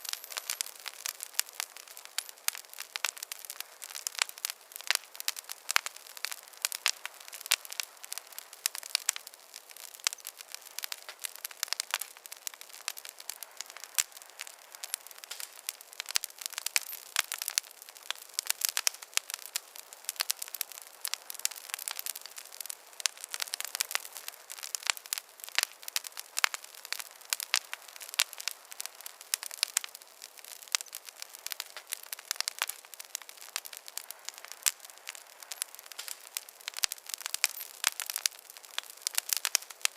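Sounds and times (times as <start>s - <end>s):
soft hiss: 0.0s - 39.9s
wood fire crackling and popping: 0.0s - 39.9s.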